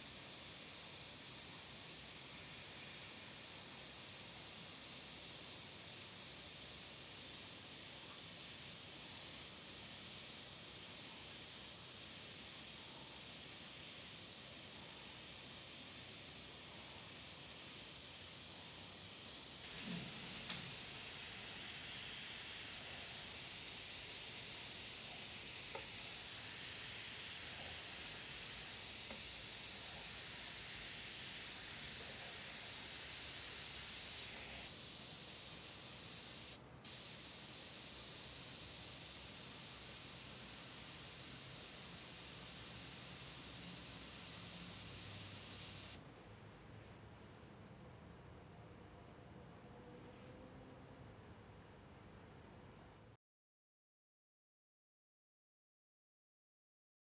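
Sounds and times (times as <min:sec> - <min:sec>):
airbrush hissing: 0:00.0 - 0:46.0.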